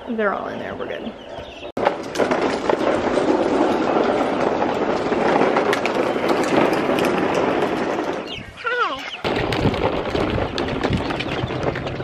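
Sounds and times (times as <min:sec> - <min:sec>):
toy truck wheels rolling on asphalt: 0:01.8 - 0:12.0.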